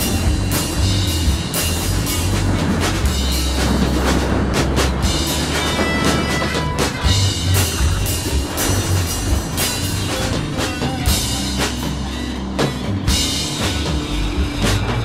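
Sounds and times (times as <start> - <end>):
music with drum beat: 0.0 - 15.0.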